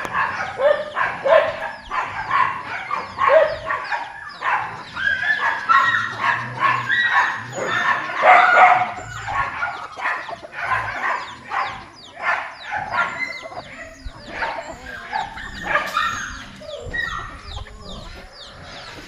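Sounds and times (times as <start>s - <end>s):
chickens calling: 0.0s - 19.0s.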